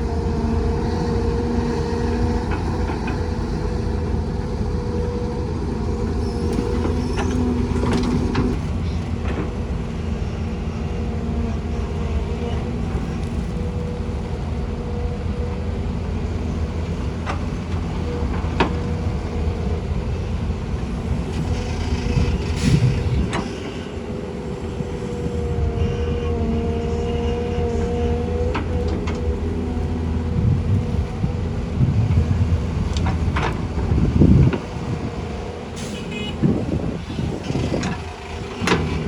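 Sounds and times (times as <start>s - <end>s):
diesel earth-moving machinery running: 0.0s - 39.0s.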